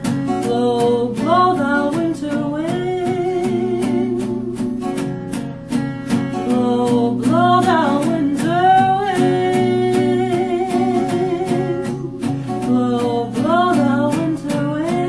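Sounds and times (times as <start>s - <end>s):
acoustic guitar picking: 0.0s - 15.0s
person singing slow melody: 0.3s - 4.9s, 6.4s - 15.0s.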